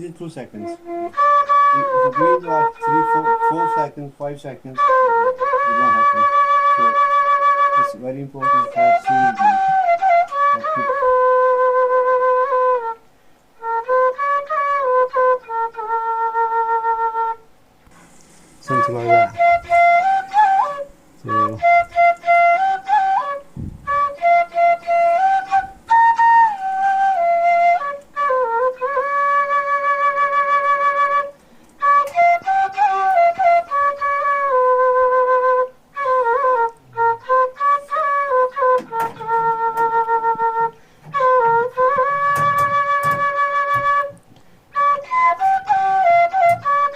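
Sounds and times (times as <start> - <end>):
flute melody: 0.0 - 46.9.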